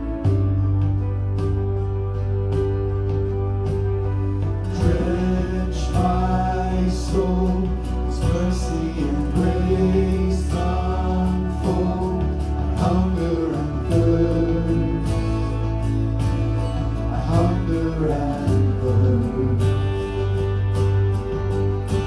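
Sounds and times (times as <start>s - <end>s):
held bass notes: 0.0s - 22.0s
strummed guitar: 0.0s - 22.0s.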